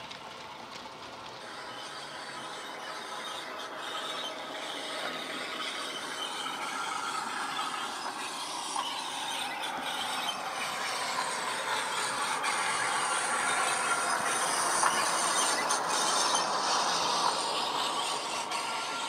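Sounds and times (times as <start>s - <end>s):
diesel engine sound from speaker: 0.0s - 19.0s
model train motor whirring: 0.0s - 19.0s.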